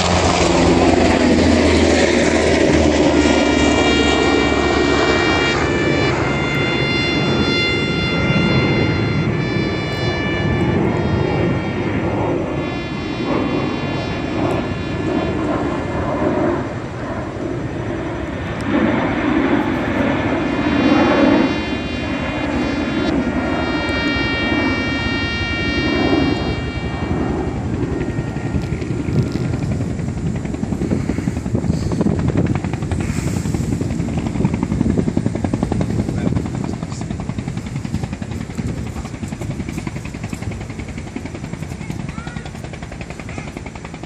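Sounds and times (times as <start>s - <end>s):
airplane engine rumble: 0.0s - 44.0s
helicopter rotor beating: 0.0s - 44.0s
high engine whine: 0.0s - 44.0s.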